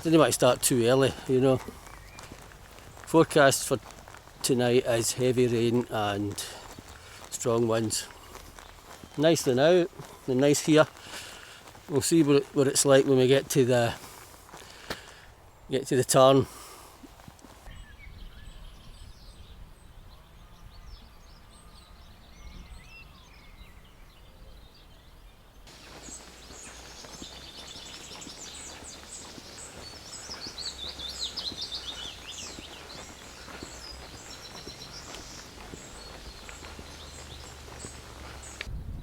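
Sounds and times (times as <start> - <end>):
small birds chirping and singing: 0.0 - 38.7.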